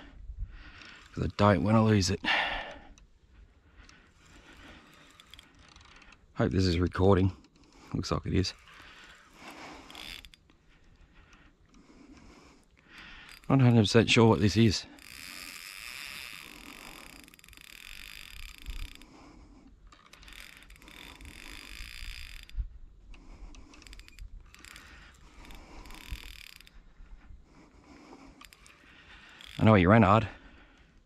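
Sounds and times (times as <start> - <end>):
fishing reel gears whirring: 0.0 - 31.0.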